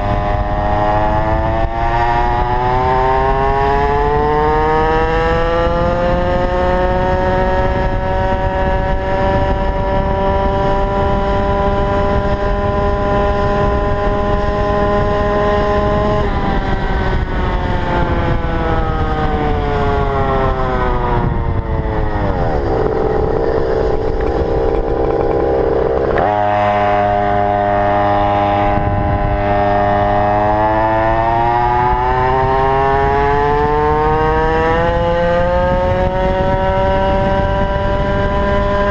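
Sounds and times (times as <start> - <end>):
two-stroke scooter engine revving: 0.0 - 38.9.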